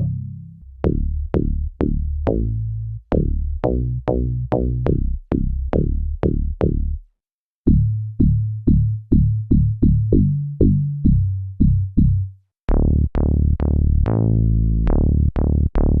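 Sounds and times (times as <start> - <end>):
plucked synthesizer bass notes: 0.0 - 7.0, 7.7 - 16.0.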